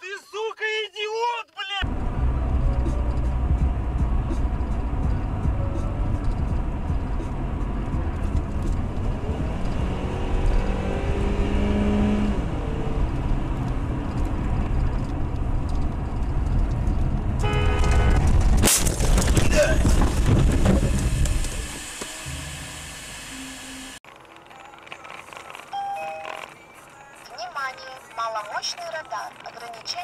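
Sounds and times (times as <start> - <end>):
car road and engine noise: 1.8 - 30.0.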